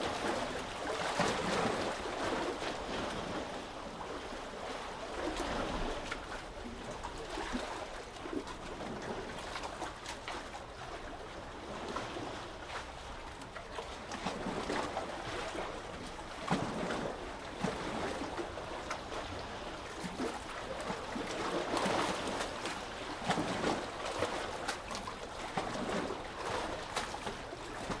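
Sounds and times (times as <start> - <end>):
sea water washing on shore: 0.0 - 28.0
small water splashes: 0.0 - 28.0.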